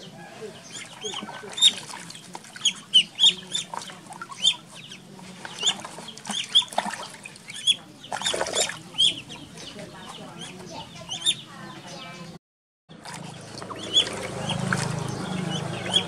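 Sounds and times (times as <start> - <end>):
ducklings peeping: 0.0 - 12.3, 12.9 - 16.0
water splashing in a tub: 0.6 - 10.7, 12.9 - 16.0.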